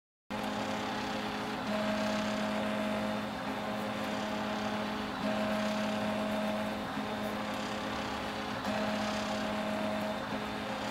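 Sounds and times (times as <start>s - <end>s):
stepper motors singing tones: 0.3s - 10.9s.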